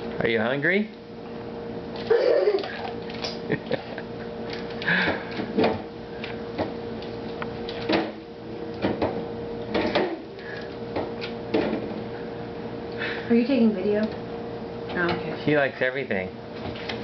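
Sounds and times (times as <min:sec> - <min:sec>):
faint refrigerator hum: 0:00.0 - 0:17.0.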